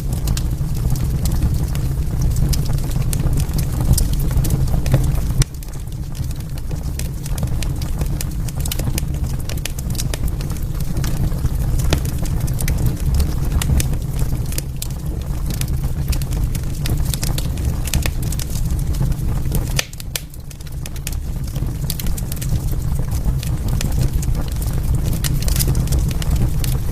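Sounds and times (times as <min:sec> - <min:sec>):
logs crackling and popping: 0:00.0 - 0:26.9
low rumble of flames: 0:00.0 - 0:26.9.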